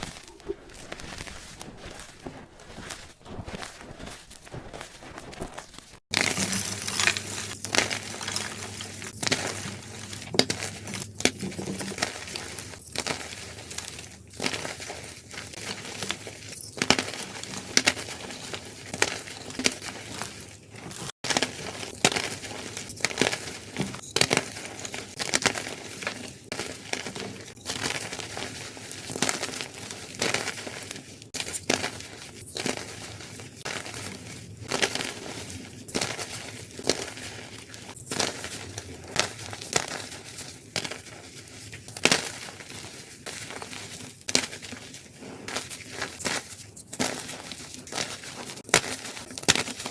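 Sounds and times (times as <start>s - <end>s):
chalk crunching and crackling: 0.0s - 49.9s.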